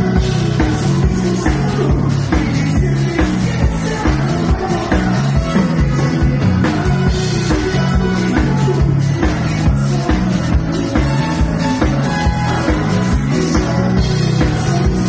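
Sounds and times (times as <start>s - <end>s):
drum kit beat: 0.0s - 15.0s
electric guitar: 0.0s - 15.0s
live dance band music: 0.0s - 15.0s.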